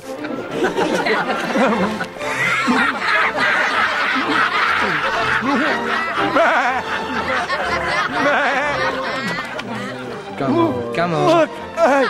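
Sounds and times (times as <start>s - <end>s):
music: 0.0s - 12.0s
people laughing: 0.1s - 10.6s, 11.4s - 12.0s.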